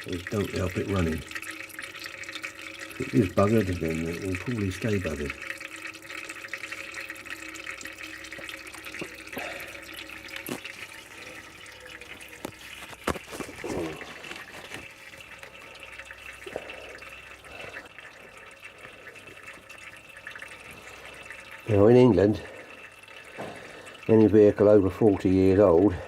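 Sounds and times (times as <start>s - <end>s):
fluid trickling into container: 0.0s - 26.0s.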